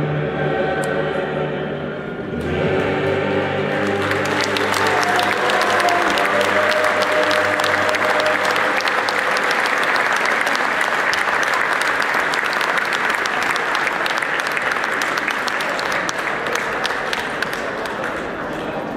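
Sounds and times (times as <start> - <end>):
audience applauding: 3.7 - 18.9.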